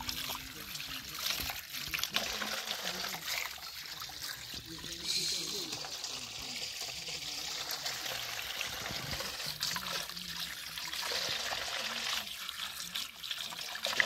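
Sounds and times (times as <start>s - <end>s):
water splashing into steel bowl: 0.0s - 14.0s.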